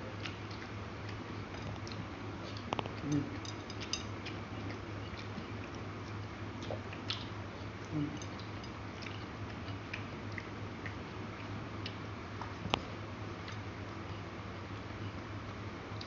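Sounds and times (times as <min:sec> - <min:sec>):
steady low hum: 0:00.0 - 0:16.0
chewing and wet mouth clicks: 0:00.2 - 0:13.7.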